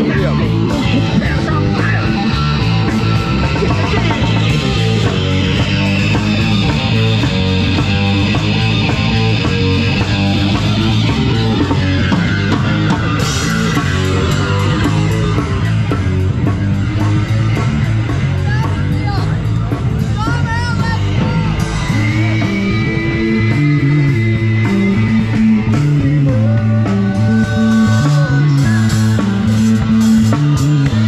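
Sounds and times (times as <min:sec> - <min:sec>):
drum kit beat: 0:00.0 - 0:31.0
electric guitar: 0:00.0 - 0:31.0.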